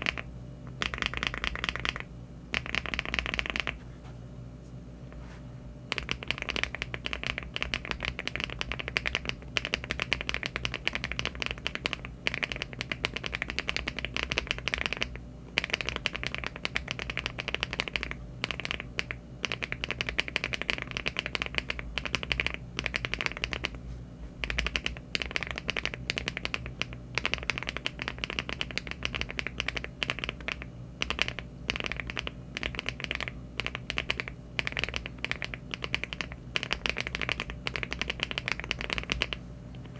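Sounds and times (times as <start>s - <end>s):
fast mechanical keyboard typing: 0.0s - 0.2s, 0.8s - 3.8s, 5.9s - 23.8s, 24.4s - 39.9s.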